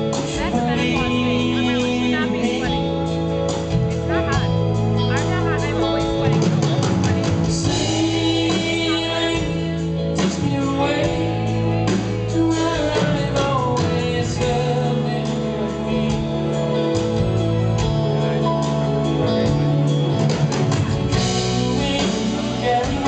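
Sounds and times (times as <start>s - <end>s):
man singing: 0.0s - 19.6s, 21.1s - 23.0s
electric guitar: 0.0s - 23.0s
sustained backing music: 0.0s - 23.0s.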